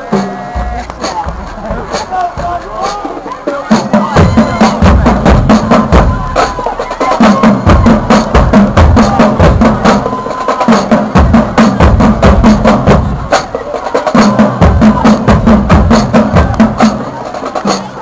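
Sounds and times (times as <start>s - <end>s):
bass drum beats: 0.0s - 18.0s.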